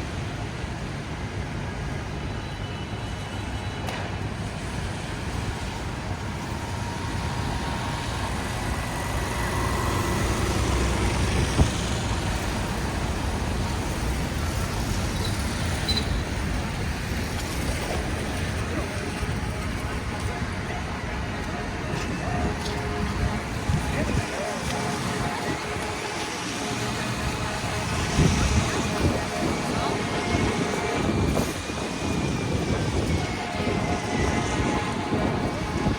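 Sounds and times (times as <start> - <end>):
traffic road noise: 0.0 - 35.9.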